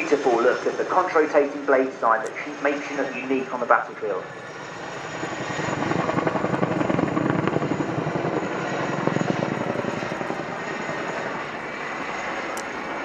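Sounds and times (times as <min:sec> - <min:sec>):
helicopter rotors beating overhead: 0:00.0 - 0:13.0.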